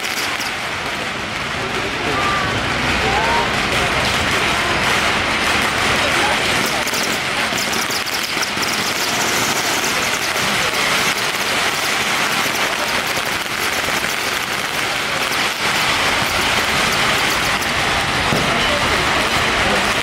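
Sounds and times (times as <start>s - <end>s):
firecrackers crackling: 0.0s - 20.0s.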